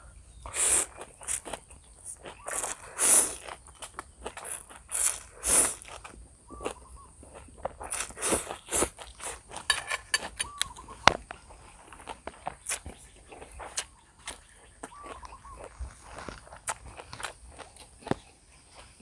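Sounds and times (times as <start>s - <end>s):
slurping and chewing noodles: 0.4s - 19.0s.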